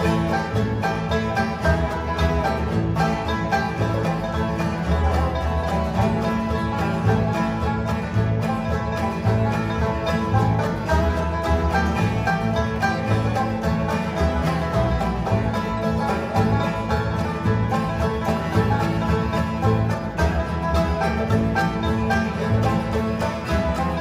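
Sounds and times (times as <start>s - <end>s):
acoustic guitars: 0.0s - 24.0s
banjo: 0.0s - 24.0s
dobro: 0.0s - 24.0s
mandolin: 0.0s - 24.0s
upright bass: 0.0s - 24.0s.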